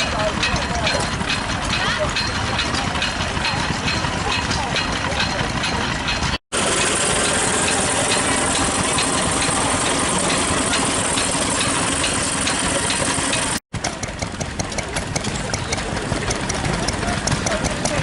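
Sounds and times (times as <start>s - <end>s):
sharp engine ticks: 0.0s - 18.0s
stationary engine running: 0.0s - 18.0s.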